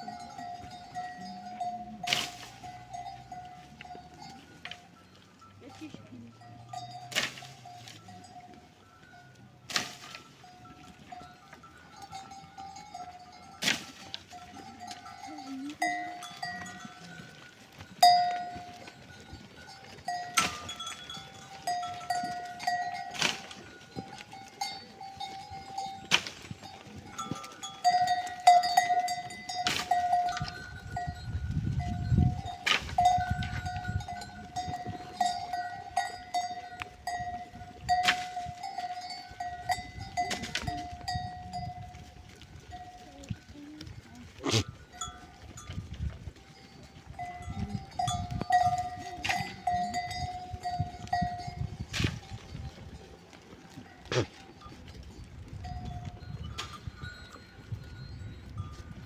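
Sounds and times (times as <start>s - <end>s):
livestock bells clinking: 0.0s - 59.0s.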